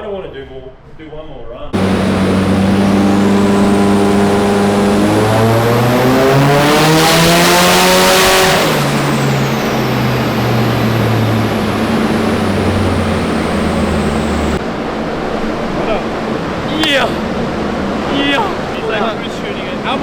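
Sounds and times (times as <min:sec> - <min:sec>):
car engine revving: 0:01.8 - 0:14.6, 0:15.5 - 0:20.0.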